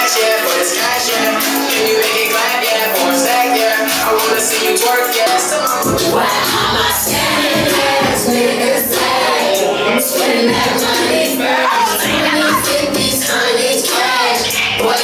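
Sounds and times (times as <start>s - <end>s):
song with sung voices and beat: 0.0s - 15.0s.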